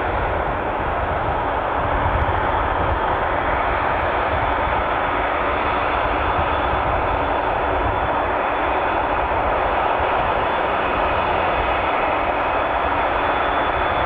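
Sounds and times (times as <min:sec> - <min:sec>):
jet engines taxiing: 0:00.0 - 0:14.0.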